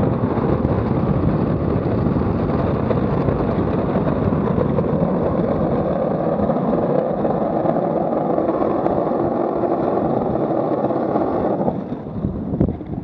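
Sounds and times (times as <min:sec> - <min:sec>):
wheels rolling on asphalt: 0:00.0 - 0:13.0.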